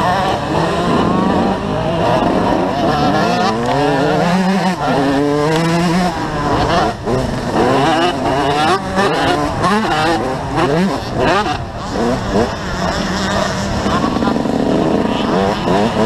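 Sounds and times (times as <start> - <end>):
motocross bike engine revving: 0.0 - 16.0
other motorbike engines: 0.0 - 16.0.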